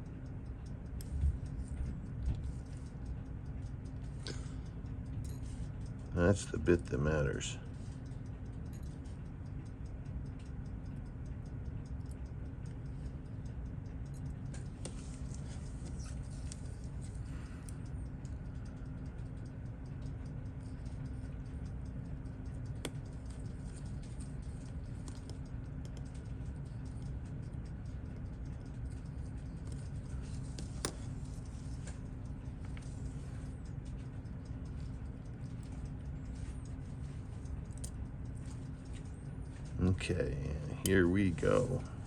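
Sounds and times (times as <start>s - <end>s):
mechanical watch ticking: 0.0s - 42.0s
small tools clicking and tapping: 0.0s - 42.0s
steady low hum: 0.0s - 42.0s.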